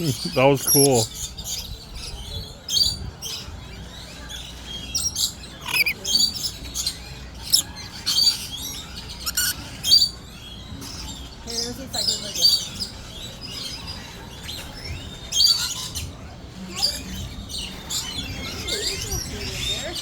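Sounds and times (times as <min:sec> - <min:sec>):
parrots screeching and chattering: 0:00.0 - 0:20.0.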